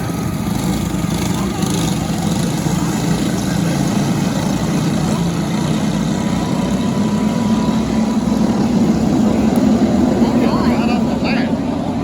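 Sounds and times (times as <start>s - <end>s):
go-kart engines running: 0.0s - 12.0s.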